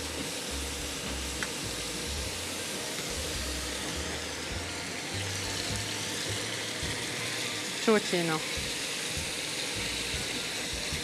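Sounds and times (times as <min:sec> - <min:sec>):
onion and garlic sizzling in oil: 0:00.0 - 0:11.0.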